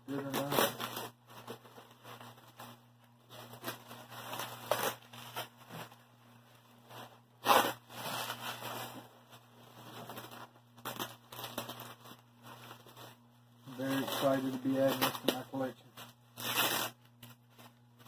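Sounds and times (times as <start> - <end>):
bubble wrap crinkling and tearing: 0.1 - 18.0.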